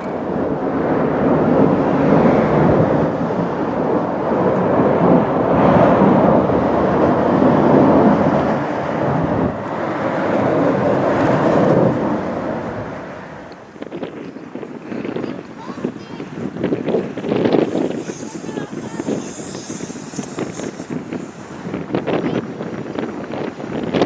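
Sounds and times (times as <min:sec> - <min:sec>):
jet aircraft engine roar: 0:00.0 - 0:24.0.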